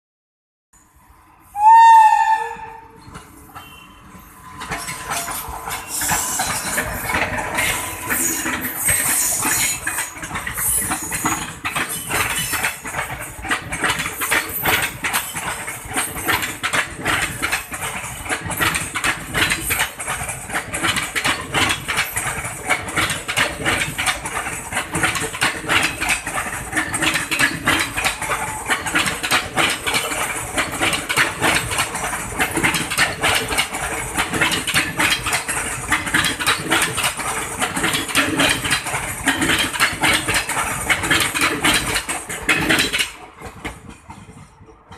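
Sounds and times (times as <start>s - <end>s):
train rumble: 0.8s - 44.9s
train wheels clattering over rail joints: 2.9s - 44.9s.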